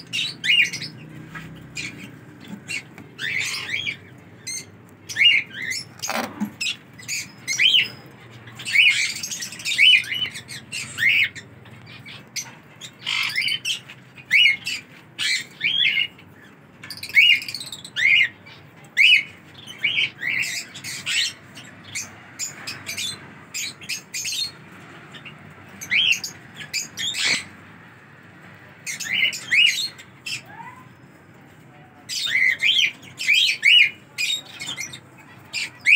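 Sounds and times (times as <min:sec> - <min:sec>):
parakeets chirping and squawking: 0:00.0 - 0:31.3, 0:32.0 - 0:35.9.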